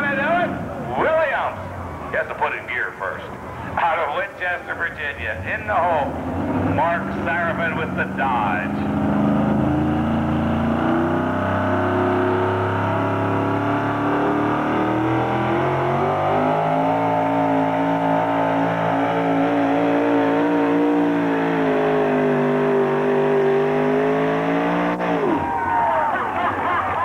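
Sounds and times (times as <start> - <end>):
truck engine at full throttle: 0.0 - 2.3, 5.6 - 26.8.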